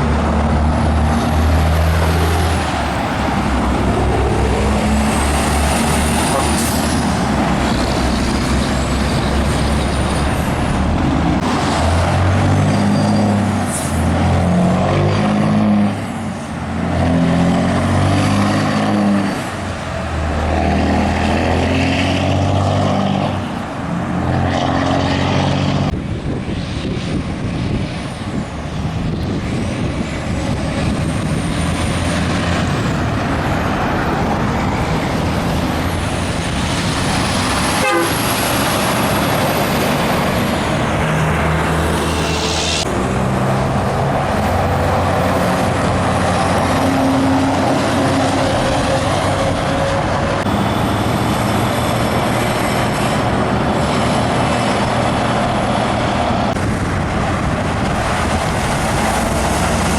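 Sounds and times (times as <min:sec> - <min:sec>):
diesel trucks passing: 0:00.0 - 0:59.9
truck engine changing pitch: 0:00.0 - 0:59.9.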